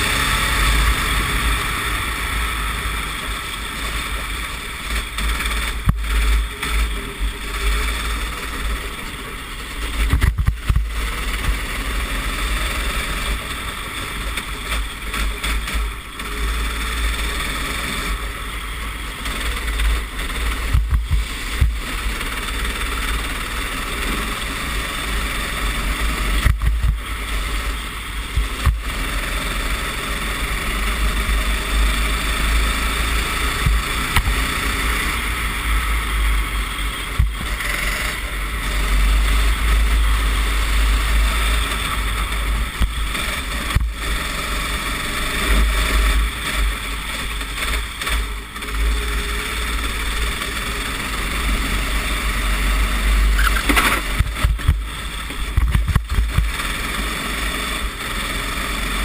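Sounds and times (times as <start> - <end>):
racing kart engine running hard: 0.0 - 59.0.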